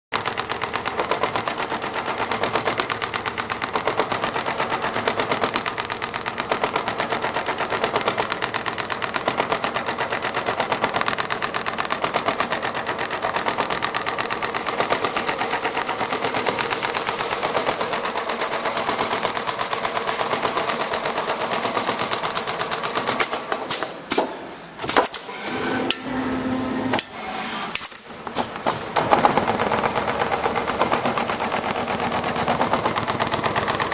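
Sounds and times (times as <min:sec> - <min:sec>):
sewing machine stitching leather: 0:00.1 - 0:24.1, 0:24.8 - 0:33.9.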